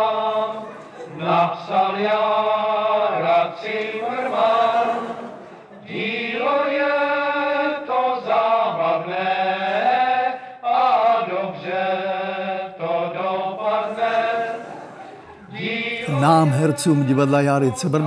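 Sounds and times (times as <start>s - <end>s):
voices singing slow melody: 0.0s - 18.0s.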